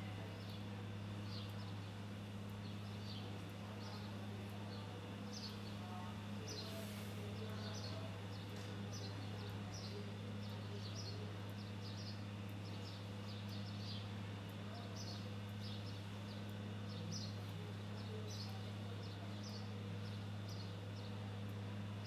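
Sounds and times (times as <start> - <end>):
steady low hum: 0.0 - 22.0
small birds chirping: 0.1 - 22.0.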